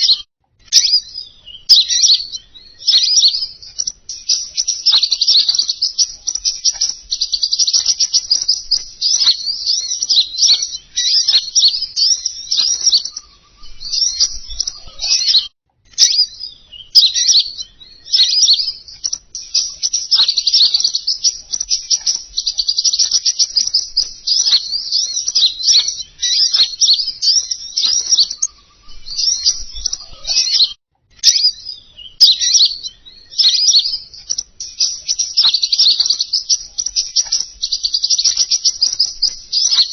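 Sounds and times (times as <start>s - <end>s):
bird chirping and warbling: 0.0s - 39.9s.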